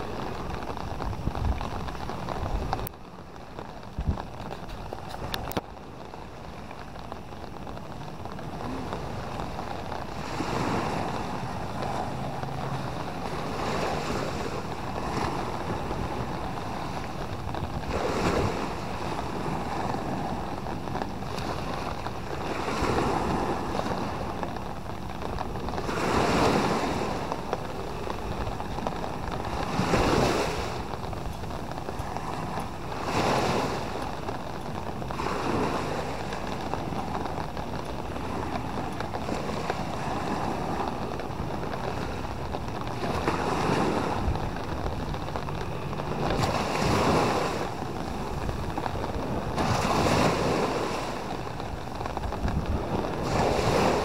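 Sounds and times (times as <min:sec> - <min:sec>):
small waves breaking on beach: 0:00.0 - 0:54.0
surf rushing: 0:00.0 - 0:54.0.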